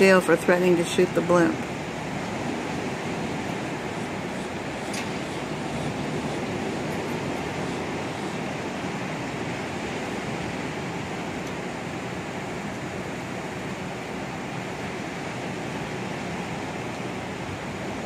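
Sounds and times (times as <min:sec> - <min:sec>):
ocean surf breaking: 0:00.0 - 0:18.0
wind on microphone: 0:00.0 - 0:18.0.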